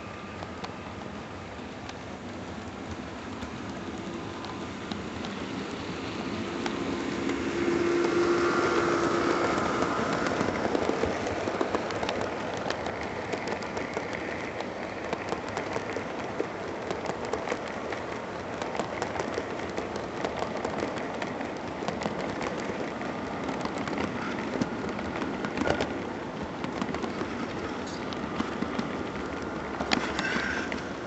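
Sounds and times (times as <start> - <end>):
model train rattling on track: 0.0 - 31.0
wheels clicking over rail joints: 0.3 - 31.0.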